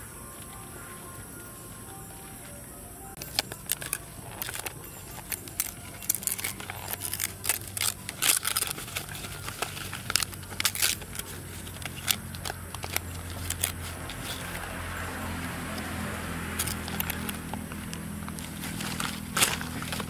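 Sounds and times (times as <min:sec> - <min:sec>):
banana leaves tearing: 0:03.2 - 0:20.0.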